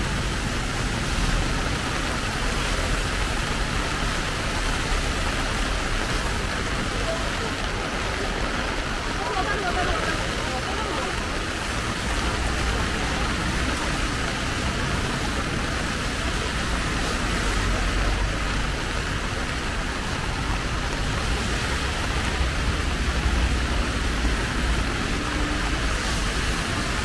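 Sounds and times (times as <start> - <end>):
rain pattering on umbrella: 0.0 - 27.0.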